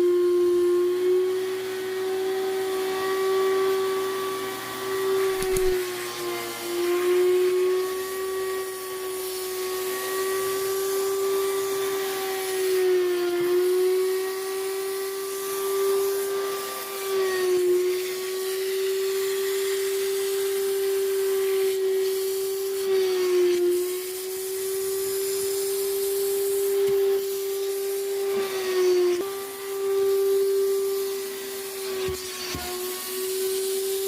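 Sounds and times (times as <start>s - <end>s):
vacuum cleaner motor whining: 0.0s - 34.0s.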